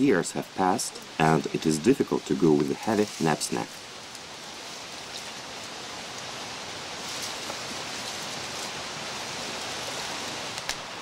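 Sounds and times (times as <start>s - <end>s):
river rushing over rocks: 0.1s - 11.0s.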